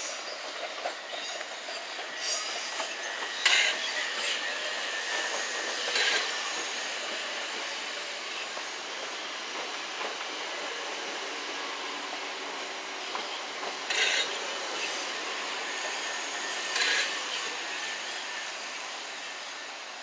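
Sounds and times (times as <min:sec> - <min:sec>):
train wheels on rails: 0:00.0 - 0:20.0.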